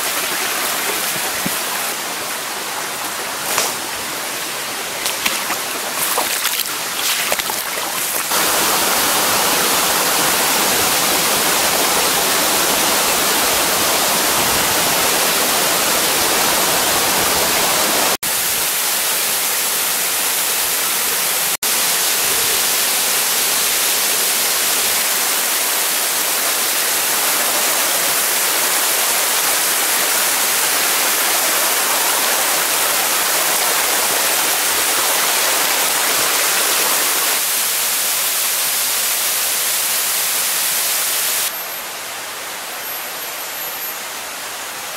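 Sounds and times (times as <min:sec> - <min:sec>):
water rushing over rocks: 0:00.0 - 0:18.8, 0:21.7 - 0:39.9.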